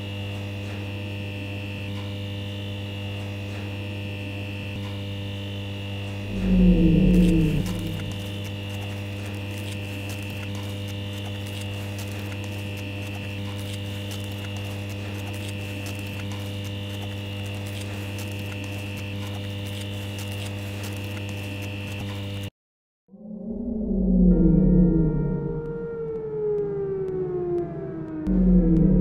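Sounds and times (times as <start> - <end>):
electrical hum: 0.0 - 22.5, 23.1 - 29.0.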